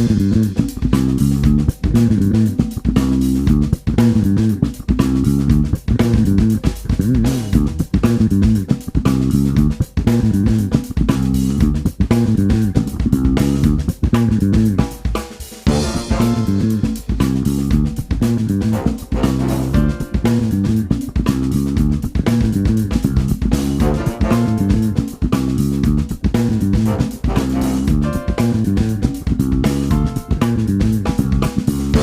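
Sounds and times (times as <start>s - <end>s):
band music with guitar and drums: 0.0s - 32.0s.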